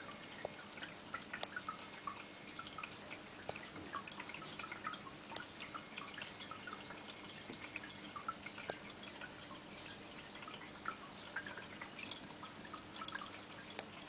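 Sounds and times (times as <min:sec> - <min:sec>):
faint steady hum: 0:00.0 - 0:14.0
water dripping and bubbling: 0:00.0 - 0:14.0.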